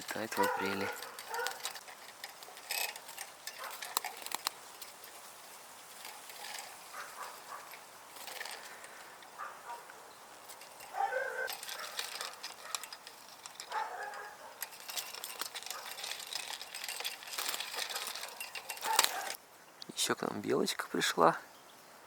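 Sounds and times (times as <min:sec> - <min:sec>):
rustling: 0:00.0 - 0:19.4.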